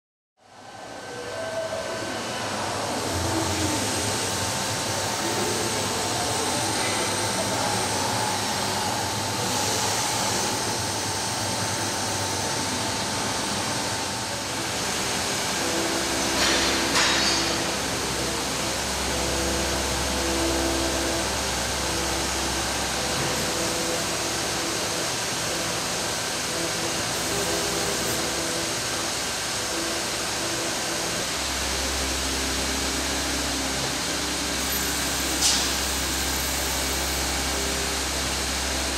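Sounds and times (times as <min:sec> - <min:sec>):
stone cutting machine with water jets: 0:01.9 - 0:38.9.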